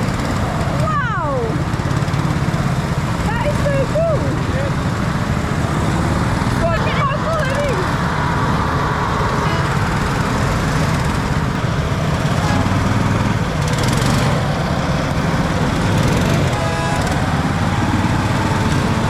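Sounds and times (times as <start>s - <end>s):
large engine running: 0.0s - 19.0s.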